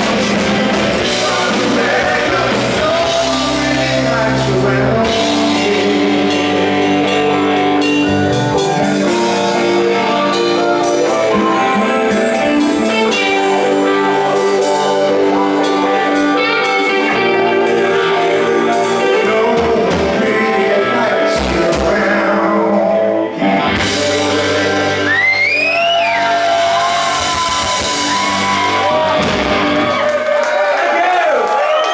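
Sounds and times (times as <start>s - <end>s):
person singing: 0.0s - 29.3s
live rock band: 0.0s - 31.9s.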